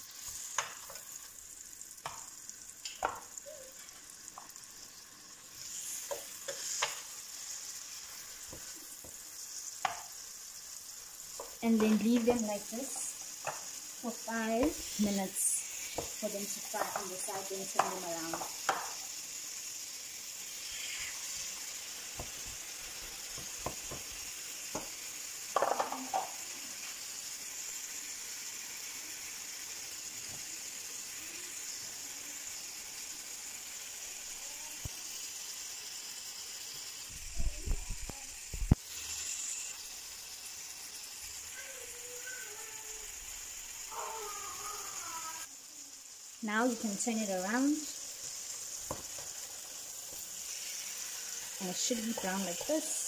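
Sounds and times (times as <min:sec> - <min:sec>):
meat sizzling in butter: 0:00.0 - 0:53.0.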